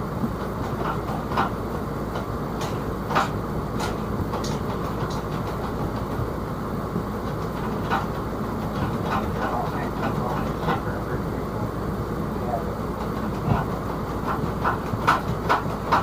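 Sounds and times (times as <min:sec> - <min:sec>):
mechanical rumble: 0:00.0 - 0:16.0
sharp clicks and knocks: 0:00.2 - 0:06.3, 0:07.2 - 0:11.0, 0:13.0 - 0:16.0.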